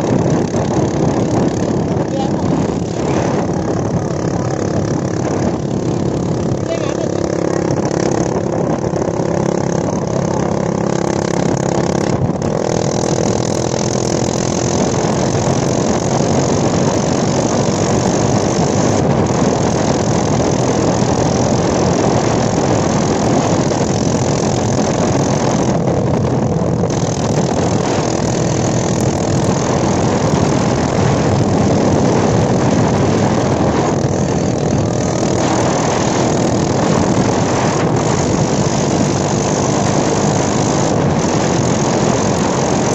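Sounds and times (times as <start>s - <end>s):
dirt bike engine running: 0.0s - 42.9s
wind rushing on microphone: 0.0s - 42.9s.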